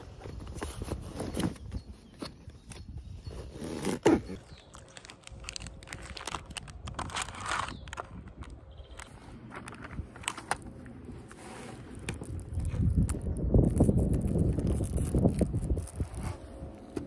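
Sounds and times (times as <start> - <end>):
packets rustling and crinkling: 0.0 - 17.0.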